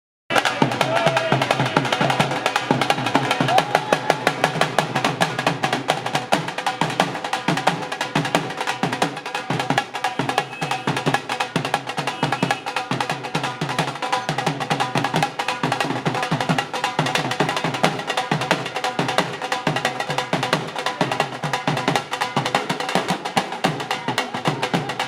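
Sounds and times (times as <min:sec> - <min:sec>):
drums beaten fast: 0:00.3 - 0:25.0.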